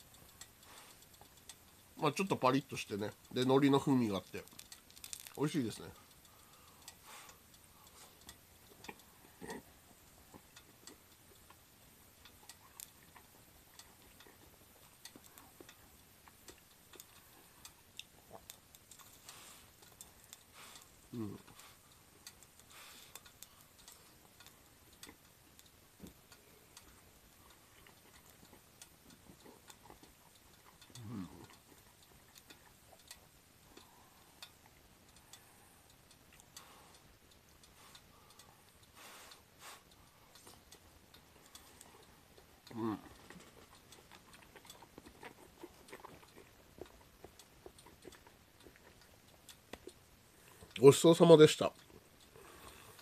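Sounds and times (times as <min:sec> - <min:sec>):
faint chewing mouth clicks: 0:00.0 - 0:53.0
frying ticks and pops: 0:00.0 - 0:53.0.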